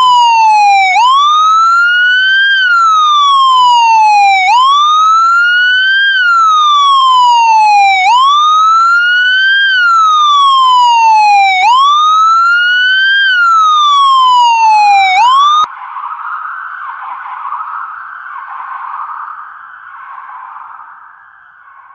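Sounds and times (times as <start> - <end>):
police siren wailing: 0.0 - 21.9.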